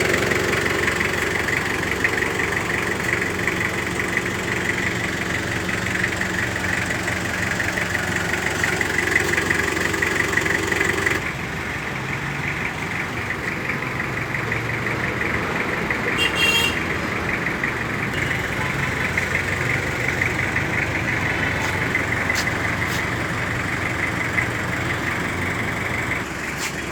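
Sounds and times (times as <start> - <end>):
diesel engine idling with clatter: 0.0 - 26.9.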